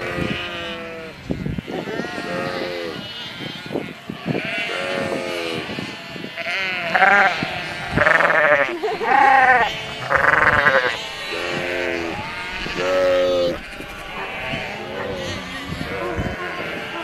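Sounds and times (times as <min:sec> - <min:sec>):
sheep bleating: 0:00.0 - 0:17.0.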